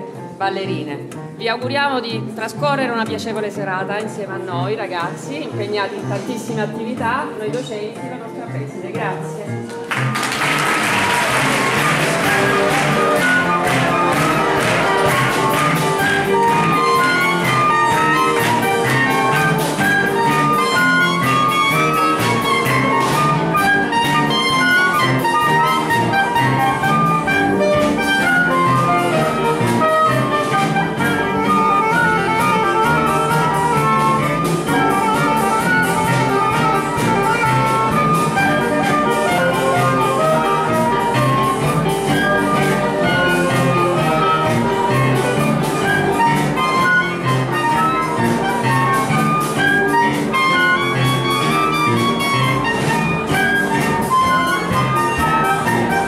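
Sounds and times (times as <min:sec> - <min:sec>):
ensemble playing instrumental piece: 0:00.0 - 0:56.0
drum kit beat: 0:09.9 - 0:56.0.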